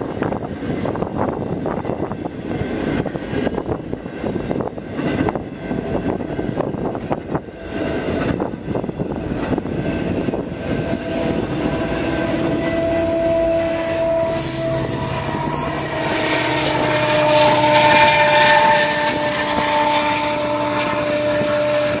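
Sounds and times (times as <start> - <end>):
diesel locomotive engine drone: 0.0 - 22.0.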